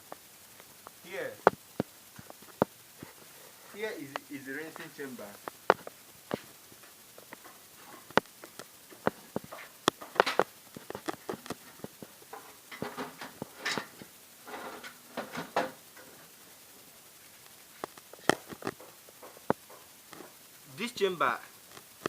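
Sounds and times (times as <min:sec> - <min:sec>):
scraping and rustling: 0:00.5 - 0:20.6.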